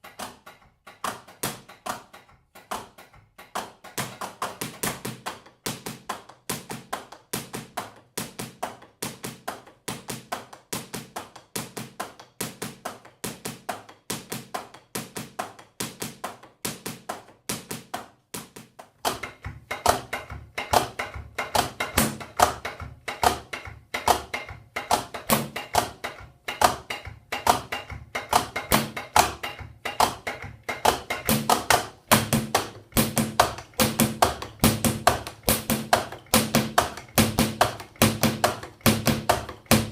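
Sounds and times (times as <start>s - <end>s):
drumsticks tapping drum pads: 0.0s - 39.9s.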